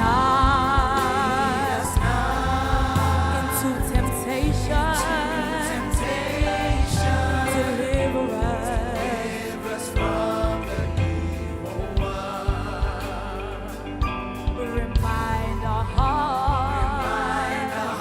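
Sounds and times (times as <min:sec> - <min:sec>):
live band with bass and drums: 0:00.0 - 0:18.0
singers holding vibrato notes: 0:00.0 - 0:18.0.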